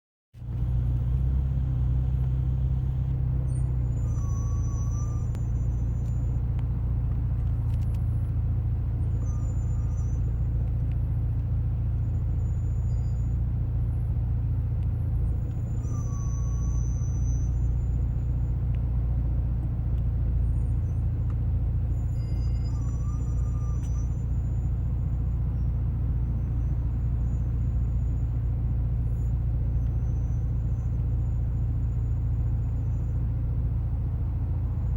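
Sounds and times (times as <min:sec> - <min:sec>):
car engine rumbling: 0:00.3 - 0:34.9
high-pitched brake squeals: 0:00.4 - 0:34.9.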